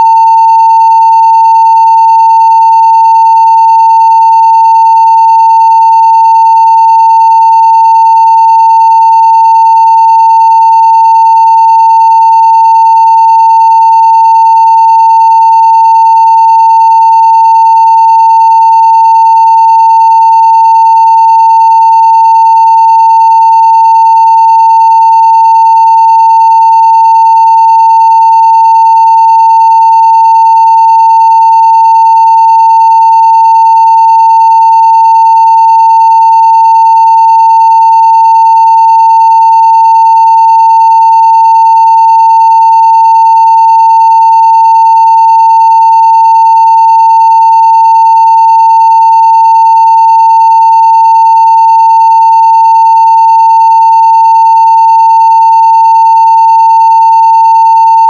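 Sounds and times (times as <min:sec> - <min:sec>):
sine wave test tone: 0:00.0 - 0:58.0.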